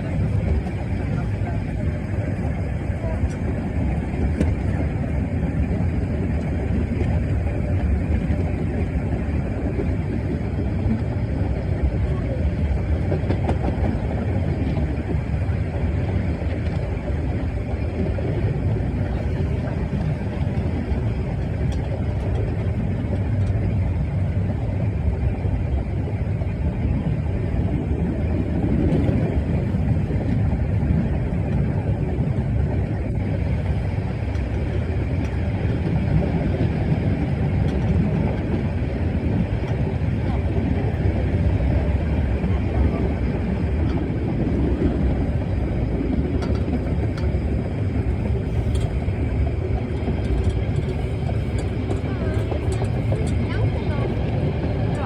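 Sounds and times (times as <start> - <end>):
train rumbling and rattling: 0.0 - 55.0.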